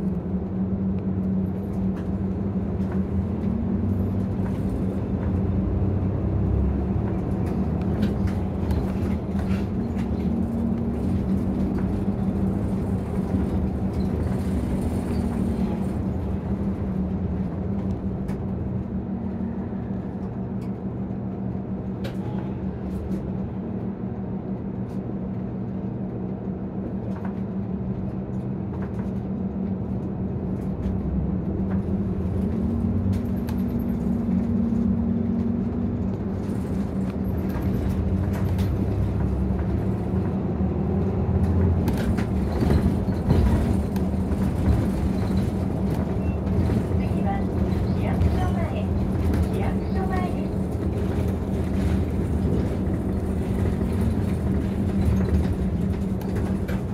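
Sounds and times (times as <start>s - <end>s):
bus diesel engine droning: 0.0s - 56.9s
road rumble: 0.0s - 56.9s.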